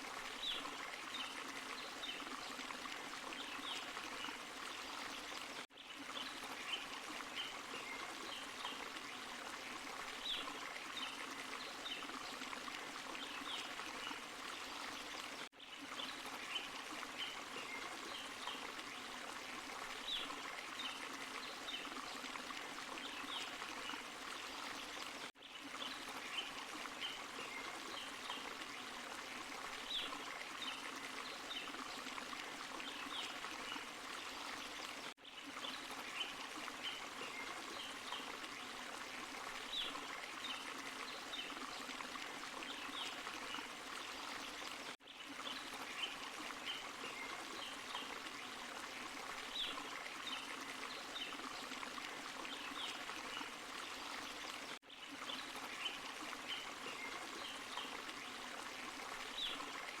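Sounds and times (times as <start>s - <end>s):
stream water rushing: 0.0s - 60.0s
water trickling and splashing: 0.0s - 60.0s.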